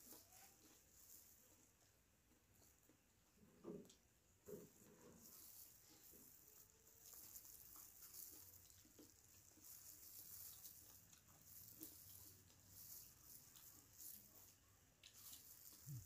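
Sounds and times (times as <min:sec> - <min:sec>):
soft chewing: 0:00.0 - 0:16.0.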